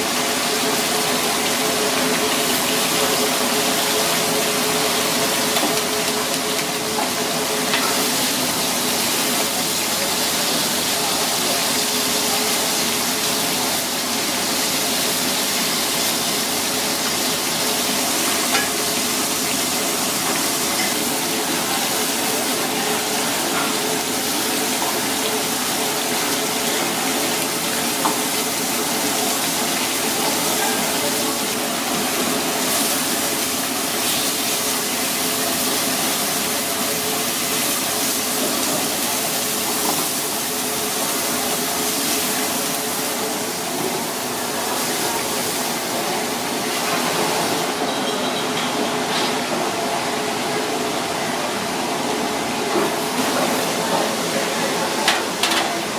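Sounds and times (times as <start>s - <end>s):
fish sizzling in frying pan: 0.0s - 48.0s.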